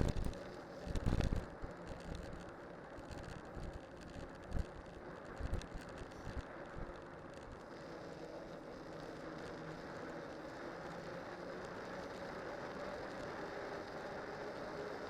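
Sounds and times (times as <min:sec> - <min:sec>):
faint steady hum: 0:00.0 - 0:15.0
studded bike tyres rolling on road: 0:00.0 - 0:15.0.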